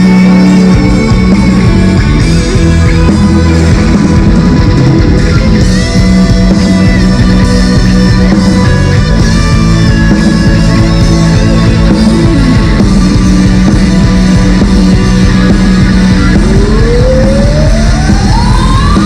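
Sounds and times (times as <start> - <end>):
guitar-led rock music: 0.0 - 19.0.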